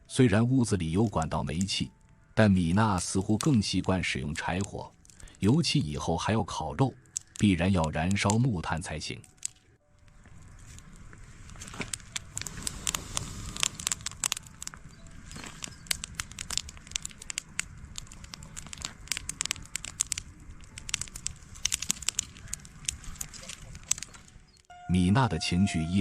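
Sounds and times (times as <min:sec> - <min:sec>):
dry grass kindling crackling: 0:00.3 - 0:26.0.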